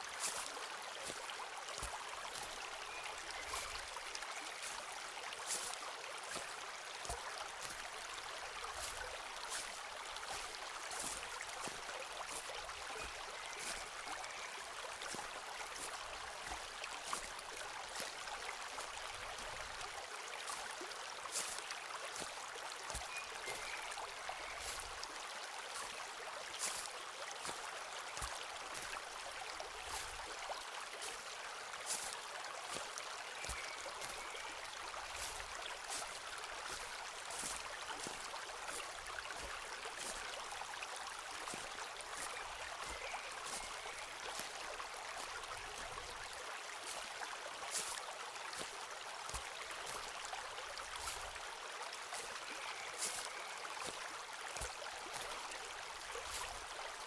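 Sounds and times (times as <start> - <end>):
stream rushing: 0.0 - 57.0
footsteps on forest floor: 0.1 - 7.9, 8.6 - 14.0, 15.0 - 19.8, 21.3 - 25.1, 26.6 - 29.1, 29.8 - 46.3, 47.7 - 51.4, 52.1 - 55.5, 56.2 - 56.7.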